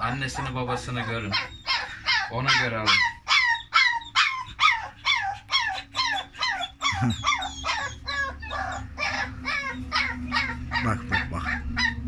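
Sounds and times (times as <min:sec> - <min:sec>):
puppy yelping: 0:00.0 - 0:12.0.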